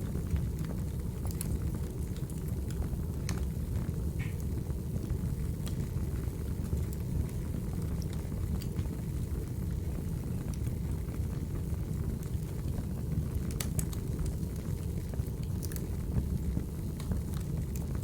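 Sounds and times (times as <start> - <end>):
fire popping and crackling: 0.0 - 18.0.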